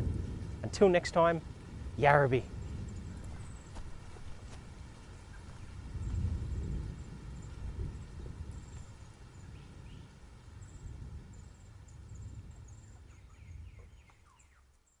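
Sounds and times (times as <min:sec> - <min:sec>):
low wind rumble: 0:00.0 - 0:15.0
small birds chirping: 0:02.4 - 0:15.0.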